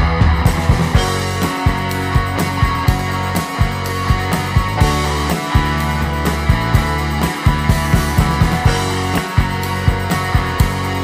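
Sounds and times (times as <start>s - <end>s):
rock music with drum beat: 0.0s - 11.0s.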